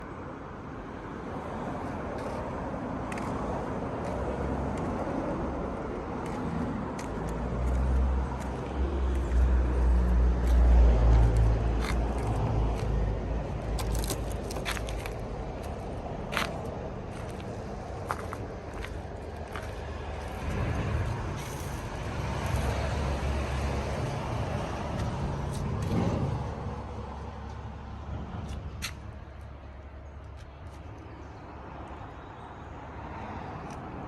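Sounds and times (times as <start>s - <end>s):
vehicle engine rumble: 0.0s - 34.0s.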